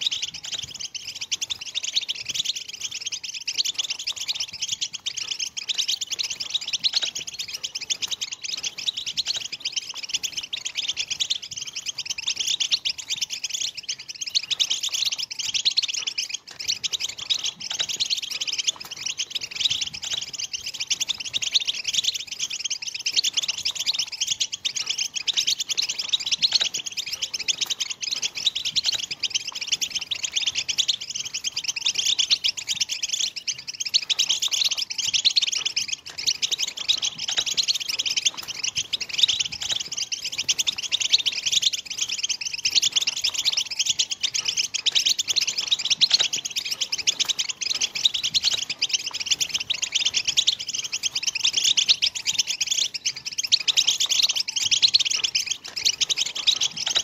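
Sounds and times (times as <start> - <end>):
goldfinches twittering: 0.0 - 57.0.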